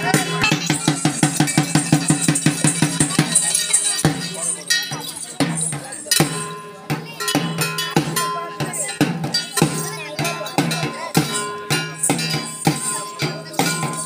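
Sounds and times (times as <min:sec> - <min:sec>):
barrel drums beating: 0:00.0 - 0:14.0
metal percussion clanging: 0:00.0 - 0:14.0.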